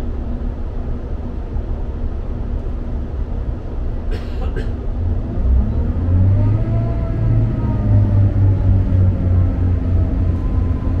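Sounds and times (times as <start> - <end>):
diesel engine hum: 0.0 - 11.0.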